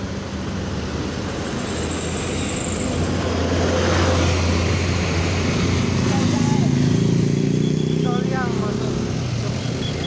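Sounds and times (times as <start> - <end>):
tyre and road noise: 0.0 - 10.0.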